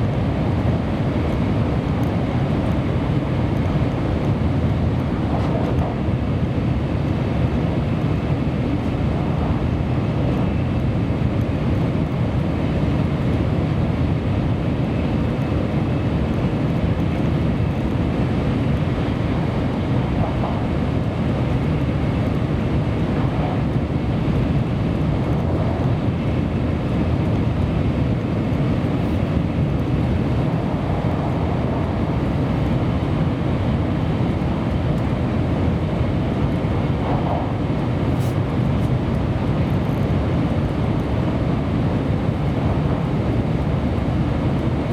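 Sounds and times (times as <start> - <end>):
train rumble inside car: 0.0 - 44.9.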